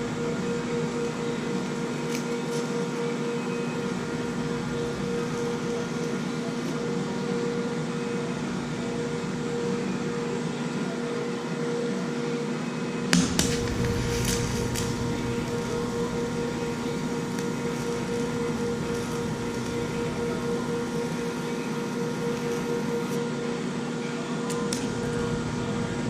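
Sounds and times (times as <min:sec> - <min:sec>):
welder humming and buzzing: 0:00.0 - 0:26.0.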